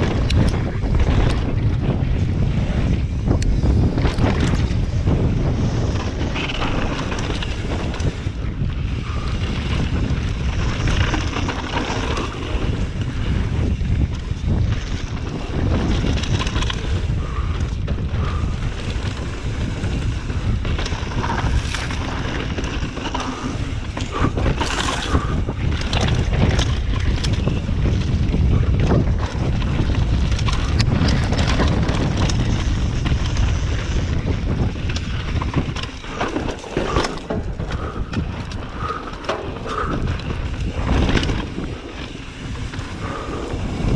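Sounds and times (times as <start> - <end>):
bike rattling clicks: 0.0 - 43.9
wind buffeting microphone: 0.0 - 43.9.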